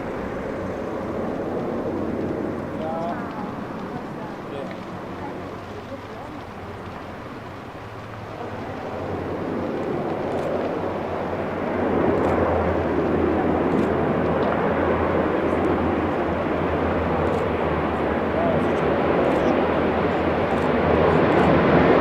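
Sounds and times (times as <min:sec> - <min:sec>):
aircraft engines running: 0:00.0 - 0:22.0.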